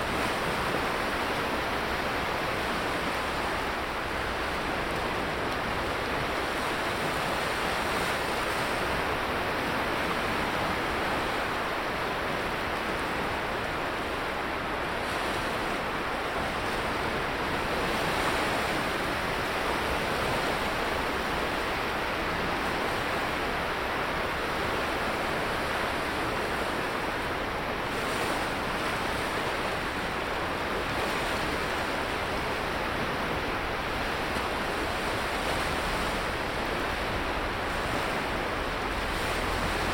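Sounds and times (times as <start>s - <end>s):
sea surf breaking: 0.0s - 39.9s.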